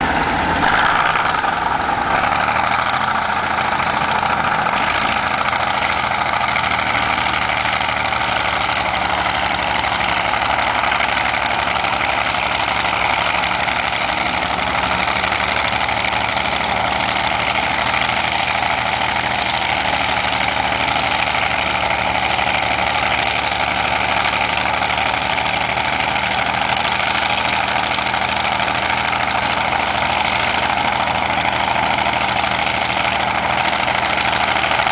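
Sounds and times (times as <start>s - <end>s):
bulldozer diesel engines running: 0.0s - 34.9s.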